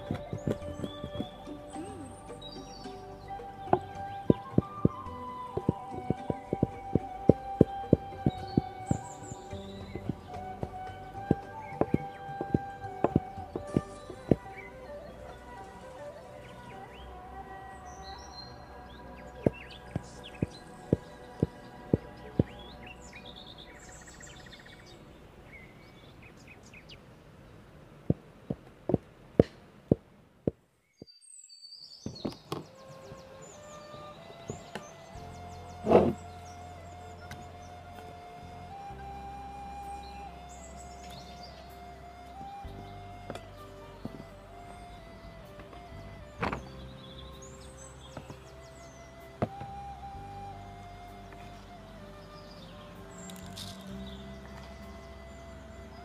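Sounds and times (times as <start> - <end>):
soft background music: 0.0 - 26.6, 32.1 - 56.0
birds chirping: 0.0 - 56.0.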